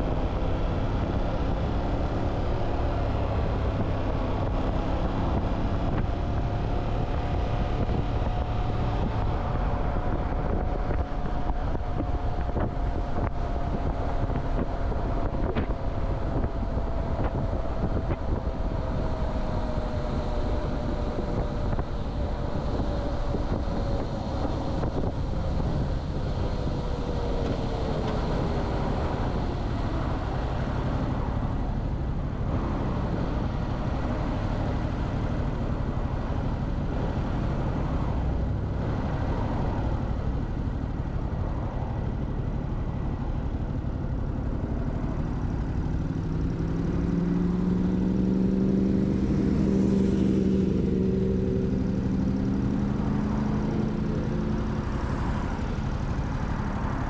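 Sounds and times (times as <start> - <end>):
wind buffeting microphone: 0.0 - 45.8
road rumble: 0.0 - 57.0.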